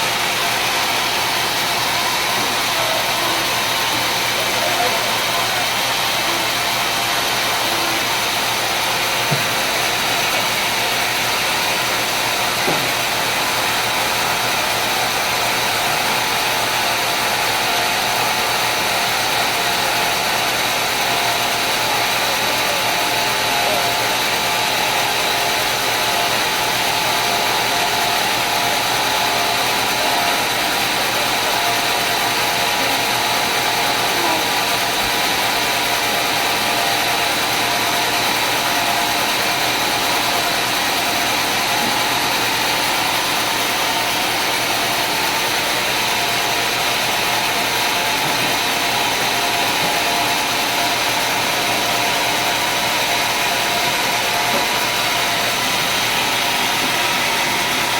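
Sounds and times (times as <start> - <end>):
sawmill machinery whine: 0.0 - 57.9.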